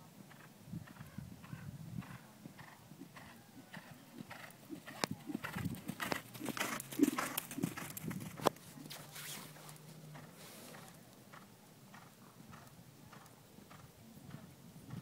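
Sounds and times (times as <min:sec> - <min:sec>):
horse hoofbeats on sand: 0:00.3 - 0:15.0.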